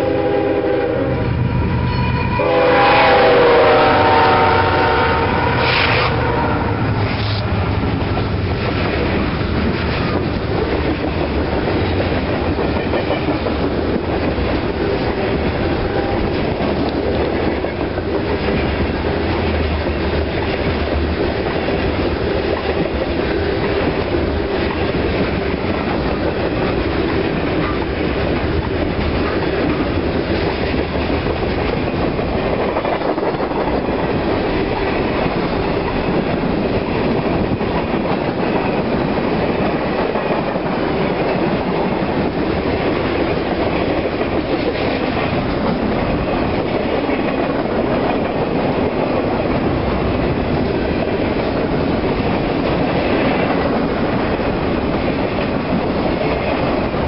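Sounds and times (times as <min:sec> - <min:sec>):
freight train wheels rolling on rails: 0:00.0 - 0:57.0.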